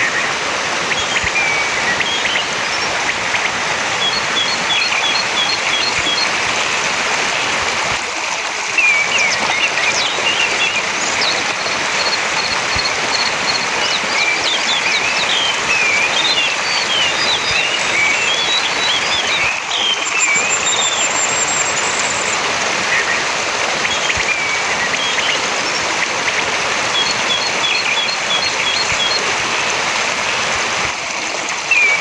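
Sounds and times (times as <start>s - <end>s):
thrush singing whistled phrases: 0.0s - 7.5s, 8.8s - 29.7s, 31.7s - 32.0s
rushing stream water: 0.0s - 32.0s.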